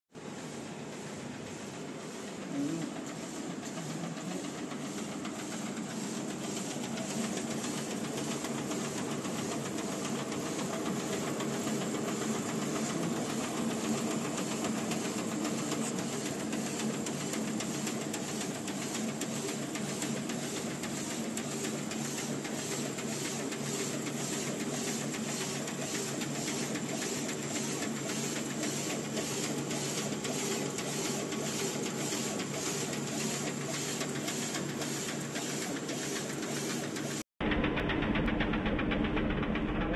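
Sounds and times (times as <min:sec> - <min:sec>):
printer mechanical hum and hiss: 0:00.2 - 0:37.3.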